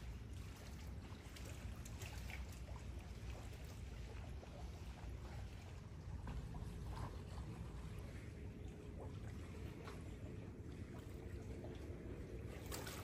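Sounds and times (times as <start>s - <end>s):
steady low rumble: 0.0s - 13.0s
water lapping and trickling: 0.0s - 13.0s.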